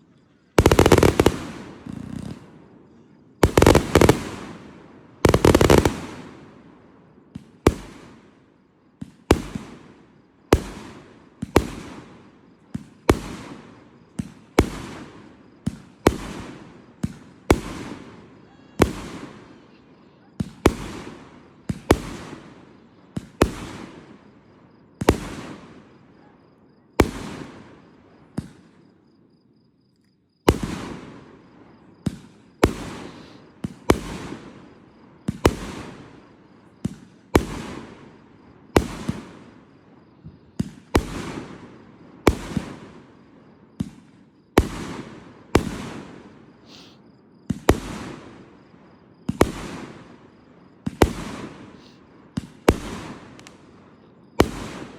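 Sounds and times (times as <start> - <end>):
fireworks bursting with bangs: 0.0 - 26.3, 26.9 - 28.9, 30.4 - 54.9
rumble after fireworks: 0.0 - 54.9.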